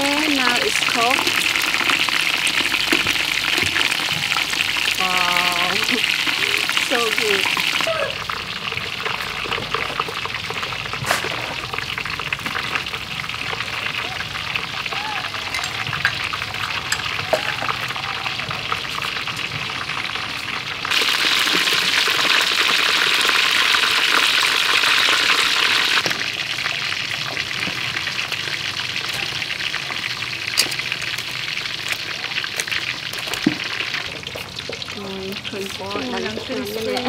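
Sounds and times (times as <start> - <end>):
chicken deep-frying in oil: 0.0 - 37.0.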